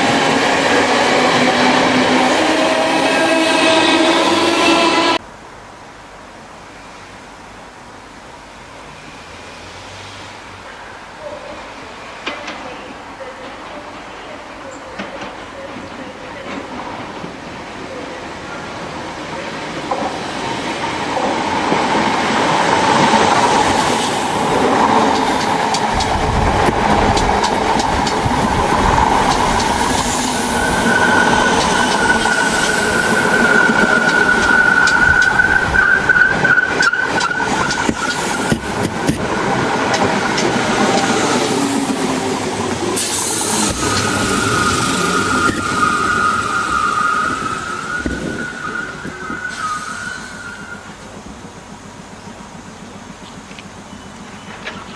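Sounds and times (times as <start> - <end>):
train rumbling past: 0.0 - 5.5, 8.5 - 54.9.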